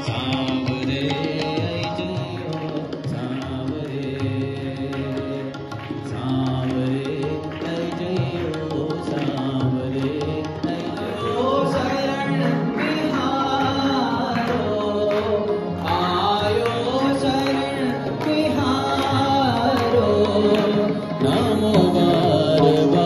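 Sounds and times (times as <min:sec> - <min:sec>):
harmonium: 0:00.0 - 0:23.0
man singing: 0:00.0 - 0:23.0
tabla: 0:00.0 - 0:23.0.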